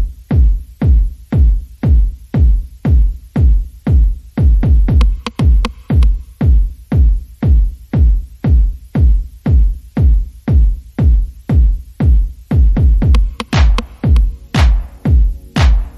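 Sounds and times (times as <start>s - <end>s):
electronic music with kick drum: 0.0s - 15.9s.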